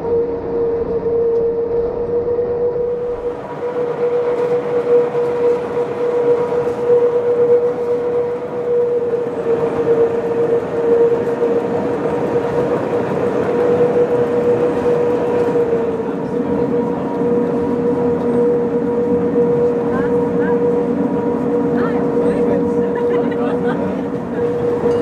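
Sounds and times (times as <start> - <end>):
railcar running gear rumble: 0.0 - 25.0.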